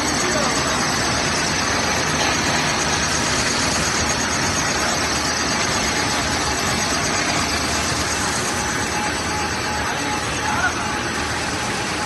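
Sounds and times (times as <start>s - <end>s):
laminating machine running: 0.0s - 12.0s.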